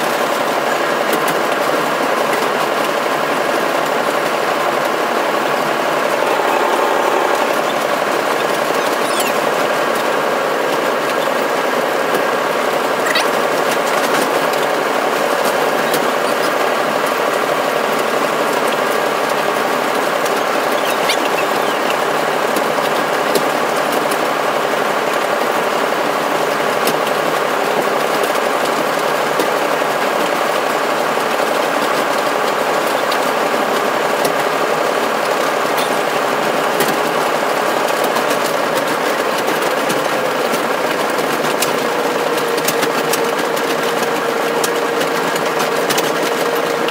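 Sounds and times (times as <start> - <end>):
locomotive engine running: 0.0 - 46.9.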